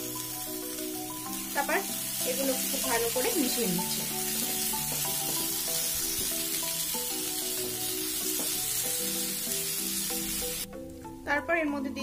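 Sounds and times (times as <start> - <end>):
food sizzling in hot oil: 0.0 - 11.2
background music of held notes: 0.0 - 12.0.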